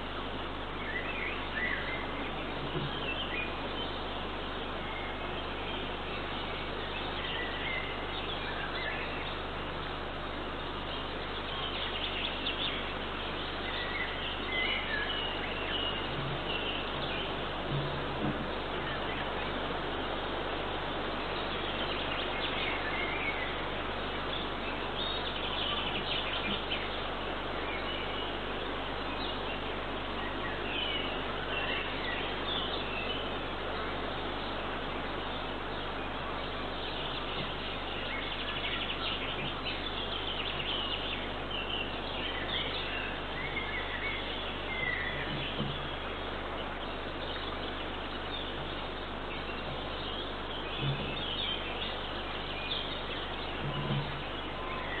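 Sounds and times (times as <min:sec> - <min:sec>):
outdoor microphone hiss: 0:00.0 - 0:55.0
small birds chirping: 0:00.0 - 0:55.0.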